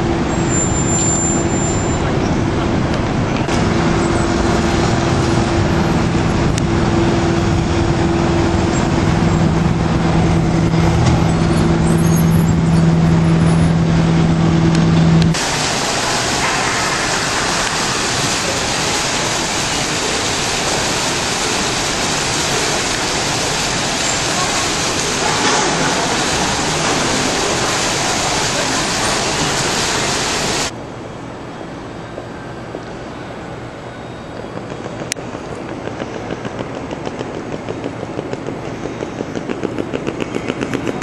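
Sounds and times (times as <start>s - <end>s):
even rushing noise: 0.0s - 33.8s
vehicle hum: 0.0s - 41.0s.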